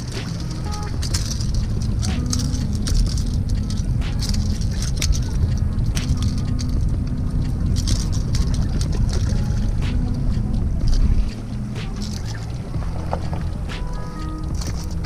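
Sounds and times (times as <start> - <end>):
sharp clicks: 0.0 - 15.0
wind buffeting microphone: 0.0 - 15.0.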